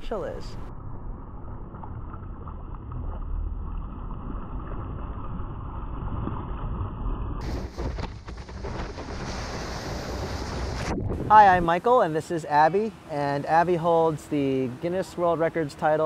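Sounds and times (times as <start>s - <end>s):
wind and sea rumble on microphone: 0.0s - 16.0s.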